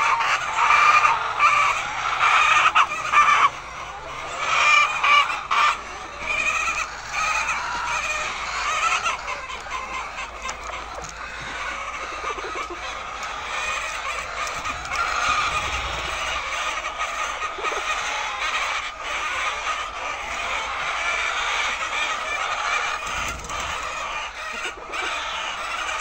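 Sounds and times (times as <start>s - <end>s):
hens clucking and squawking: 0.0s - 26.0s.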